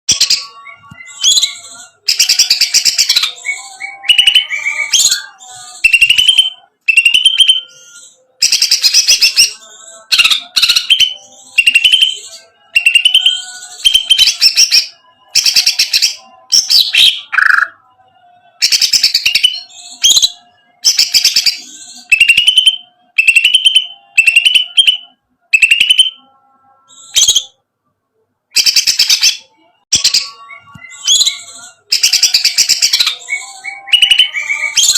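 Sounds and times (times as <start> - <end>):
bird singing fast phrases: 0.1 - 27.6, 28.5 - 34.9.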